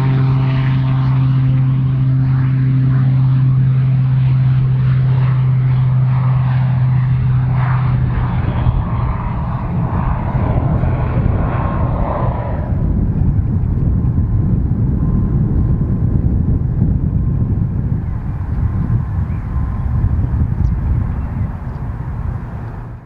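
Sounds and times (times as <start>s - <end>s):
aircraft rushing noise: 0.0s - 23.0s
small aircraft engine hum: 0.0s - 23.0s.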